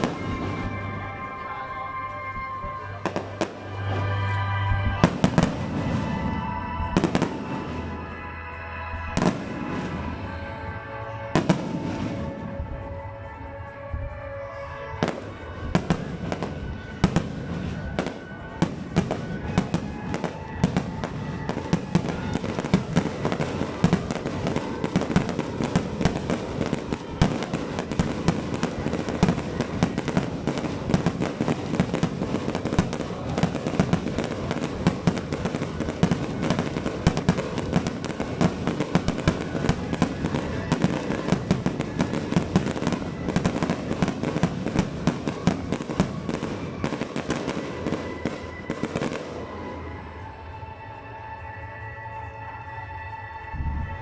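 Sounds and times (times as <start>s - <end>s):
firework crackle: 0.0s - 13.3s, 14.0s - 50.2s.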